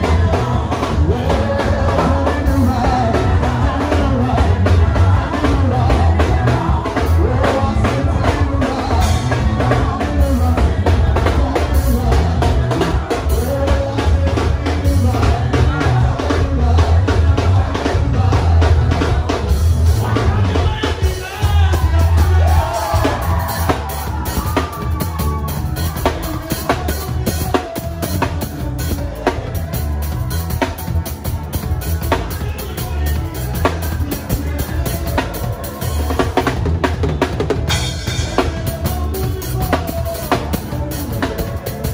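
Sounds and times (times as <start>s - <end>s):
band music: 0.0s - 41.9s
drum kit beat: 0.0s - 41.9s
heavy bass line: 0.0s - 41.9s.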